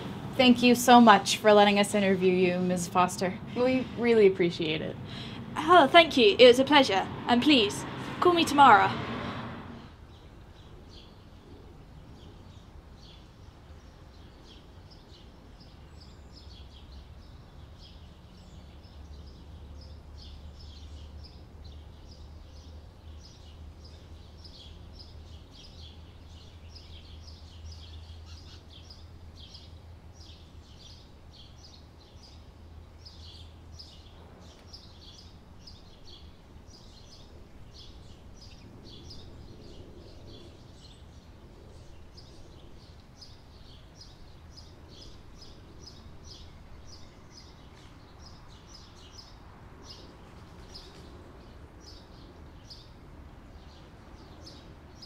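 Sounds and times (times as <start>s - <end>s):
small birds chirping: 9.8s - 55.0s.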